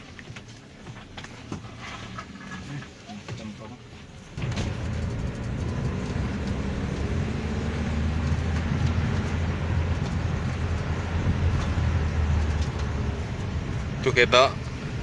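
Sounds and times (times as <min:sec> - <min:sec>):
vehicle driving on road: 0:00.0 - 0:15.0.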